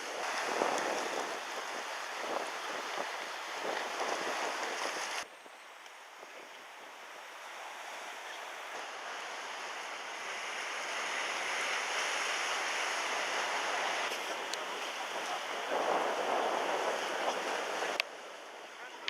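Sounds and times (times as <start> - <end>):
sea water rushing: 0.0 - 5.3, 5.9 - 19.0
rushing wind: 0.0 - 19.0.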